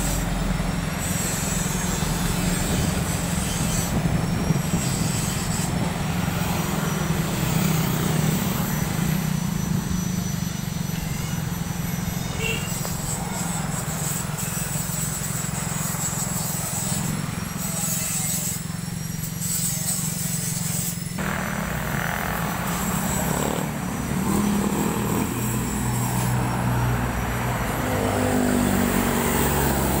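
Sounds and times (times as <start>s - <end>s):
heavier engine drone: 0.0s - 19.3s, 21.1s - 30.0s
passing road traffic: 0.0s - 30.0s
vehicle engine rumble: 0.0s - 30.0s.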